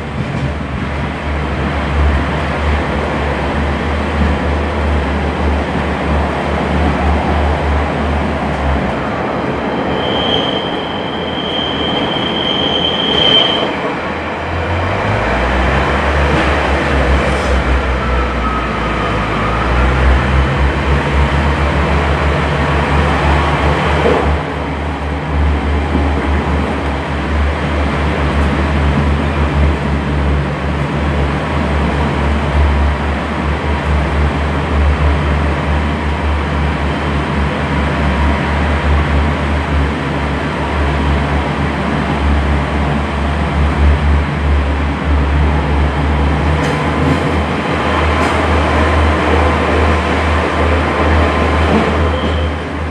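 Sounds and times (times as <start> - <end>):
train running gear rumble: 0.0 - 52.9.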